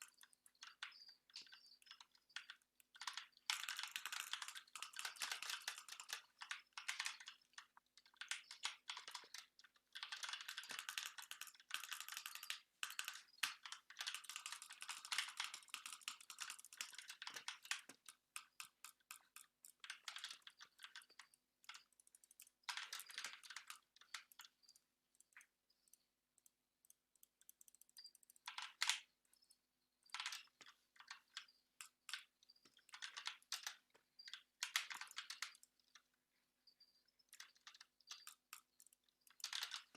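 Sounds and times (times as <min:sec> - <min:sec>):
typing on computer keyboard: 0:00.0 - 0:36.3, 0:37.1 - 0:39.9.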